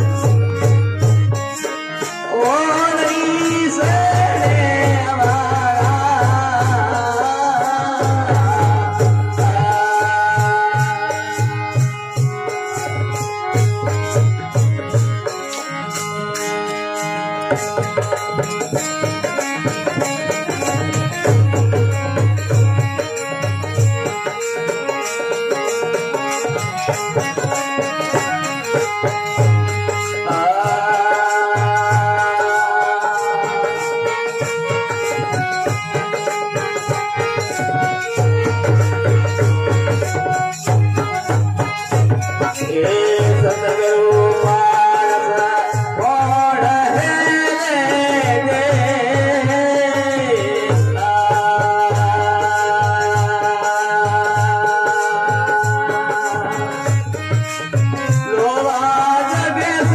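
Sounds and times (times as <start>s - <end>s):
dholak drum beat: 0.0s - 59.9s
harmonium melody: 0.0s - 59.9s.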